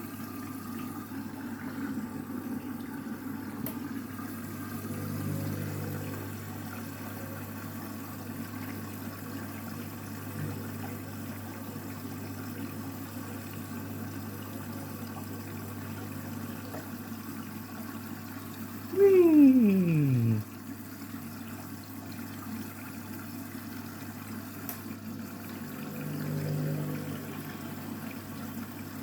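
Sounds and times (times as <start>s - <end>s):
washing machine low hum: 0.0s - 29.0s
water rushing into washing machine: 0.0s - 29.0s.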